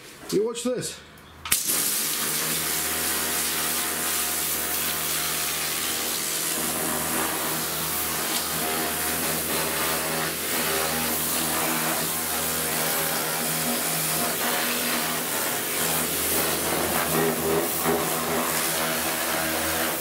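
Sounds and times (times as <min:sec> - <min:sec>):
pressure washer jet hissing on metal: 0:01.5 - 0:20.0.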